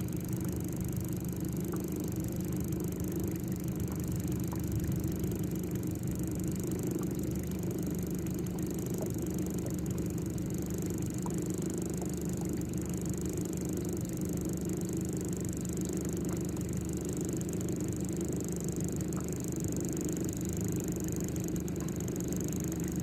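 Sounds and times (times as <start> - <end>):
steady low hum: 0.0 - 23.0
faint ticks: 0.1 - 23.0.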